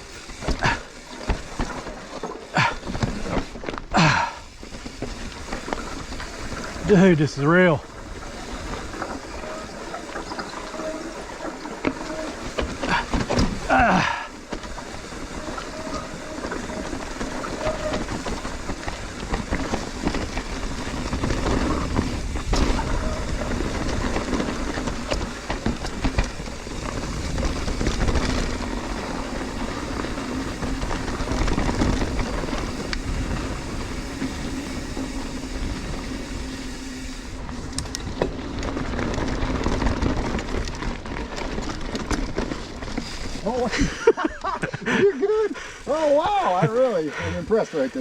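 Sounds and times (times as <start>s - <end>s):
bike rattling and knocking: 0.0s - 48.0s
bike tyres rumbling over rocks: 0.0s - 48.0s.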